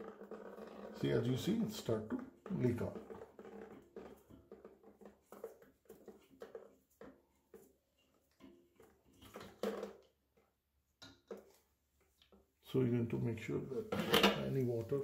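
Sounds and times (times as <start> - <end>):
water dripping into plastic bucket: 0.0 - 12.7.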